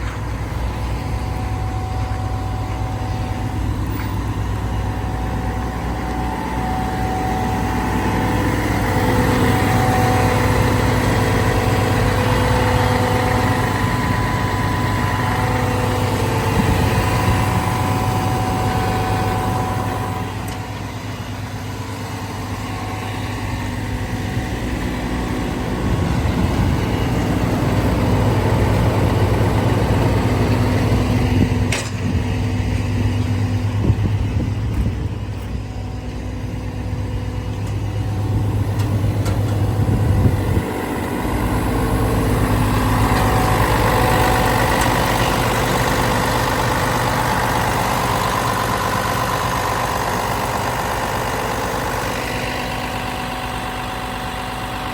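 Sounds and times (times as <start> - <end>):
excavator diesel engine running: 0.0 - 54.9
high whine: 0.0 - 54.9.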